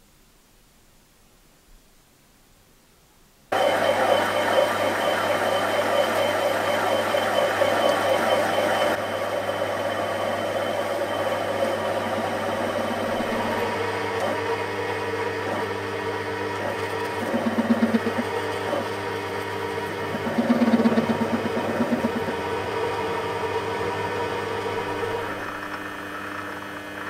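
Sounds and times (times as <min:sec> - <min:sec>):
metal lathe motor hum: 0:03.5 - 0:27.0.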